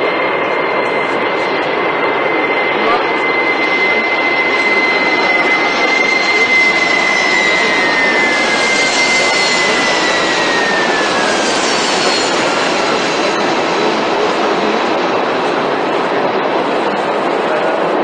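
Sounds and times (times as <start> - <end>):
jet engines rushing and whining: 0.0 - 18.0.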